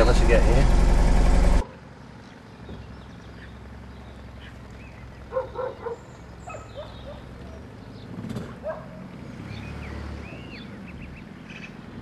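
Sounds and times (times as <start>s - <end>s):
engine hum: 0.0s - 12.0s
quiet outdoor ambience: 0.0s - 12.0s.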